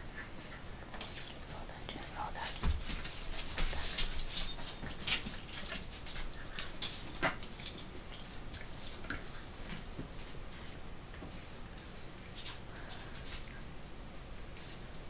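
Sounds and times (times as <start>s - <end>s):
dogs scuffling: 0.2s - 13.5s.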